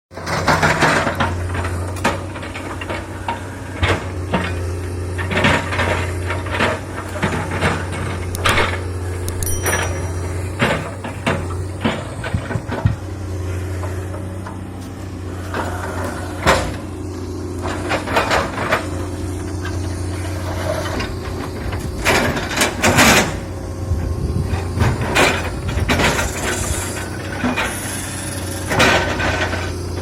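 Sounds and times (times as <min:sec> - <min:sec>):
excavator diesel engine running: 0:00.1 - 0:30.0.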